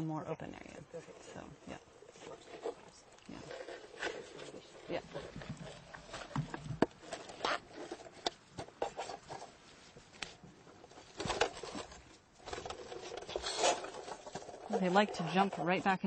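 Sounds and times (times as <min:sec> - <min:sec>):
bag rustling: 0:00.8 - 0:16.0.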